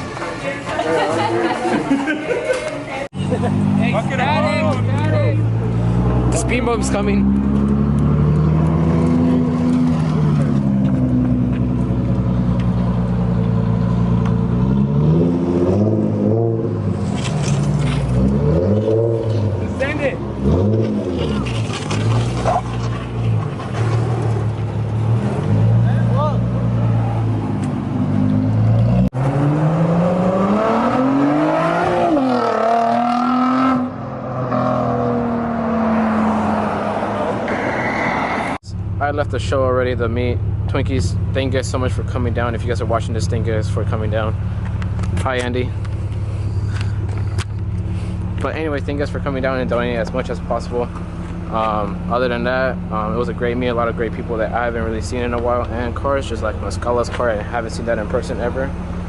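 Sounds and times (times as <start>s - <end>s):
car engine accelerating: 3.2s - 59.0s.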